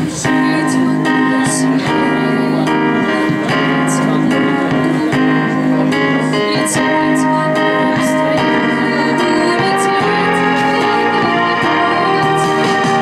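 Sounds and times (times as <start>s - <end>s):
girl singing into microphone: 0.0s - 13.0s
keyboard backing track: 0.0s - 13.0s.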